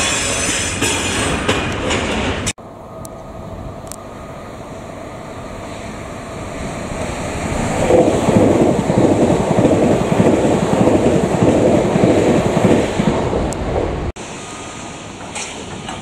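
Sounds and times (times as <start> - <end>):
train passing rumbling: 0.0 - 16.0.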